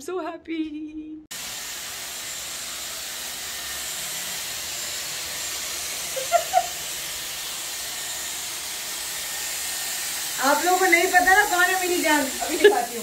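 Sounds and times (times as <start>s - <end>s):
hot air brush blowing: 1.3s - 13.0s.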